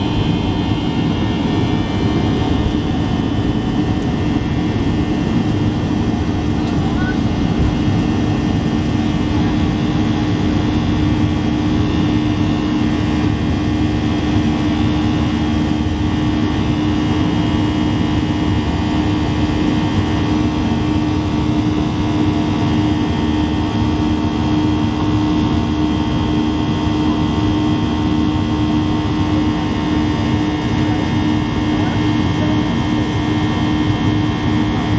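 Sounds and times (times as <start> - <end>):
high whining fan tones: 0.0 - 34.9
jet engines droning: 0.0 - 34.9.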